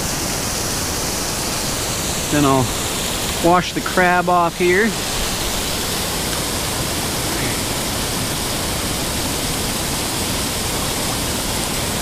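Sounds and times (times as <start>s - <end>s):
ocean surf washing over sand: 0.0s - 12.0s.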